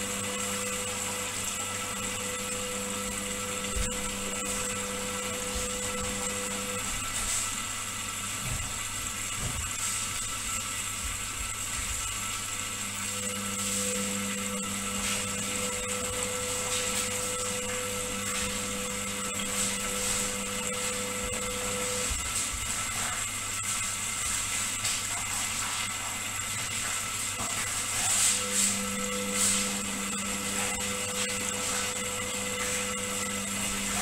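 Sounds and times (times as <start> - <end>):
washing machine drum humming: 0.0 - 34.0
washing machine whining: 0.0 - 34.0.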